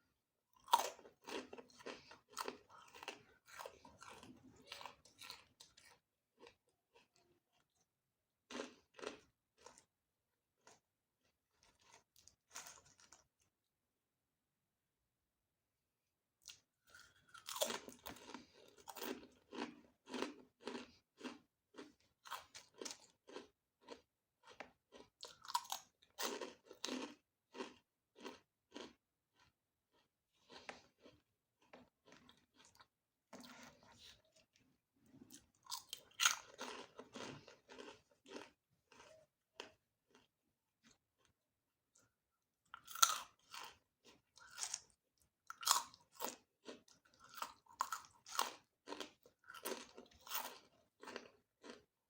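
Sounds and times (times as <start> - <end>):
chewing crunchy food: 0.5 - 13.5, 16.4 - 52.0.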